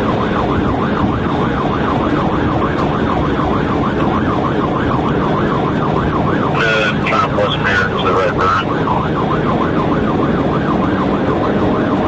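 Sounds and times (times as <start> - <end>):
car engine and road noise: 0.0 - 12.0
police siren yelping: 0.0 - 12.0.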